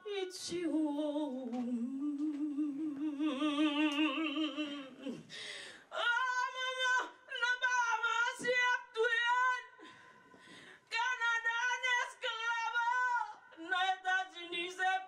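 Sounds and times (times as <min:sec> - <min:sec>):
woman singing unaccompanied: 0:00.0 - 0:05.3, 0:05.9 - 0:09.8, 0:10.9 - 0:15.0.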